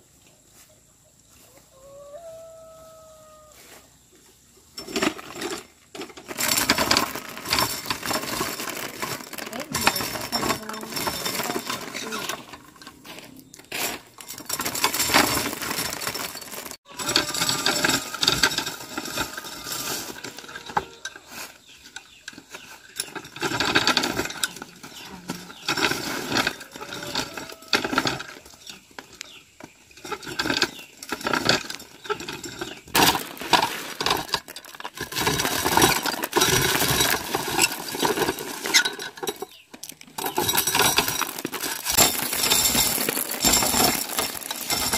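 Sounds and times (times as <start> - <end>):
corn kernels rattling and dropping: 4.7 - 44.9.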